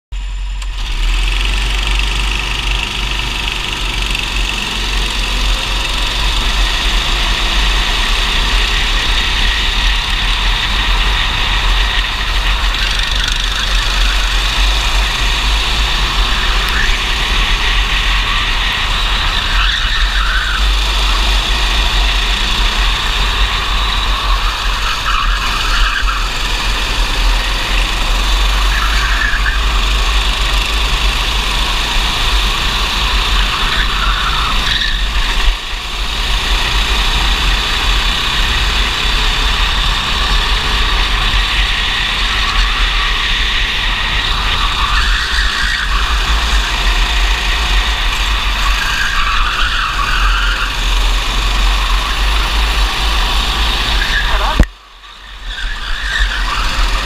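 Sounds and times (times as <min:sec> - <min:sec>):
go-kart engines racing: 0:00.2 - 0:57.0.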